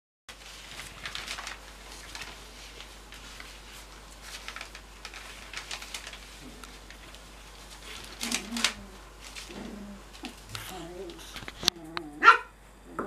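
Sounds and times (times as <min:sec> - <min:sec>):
paws scuffling on newspaper: 0:00.3 - 0:11.8.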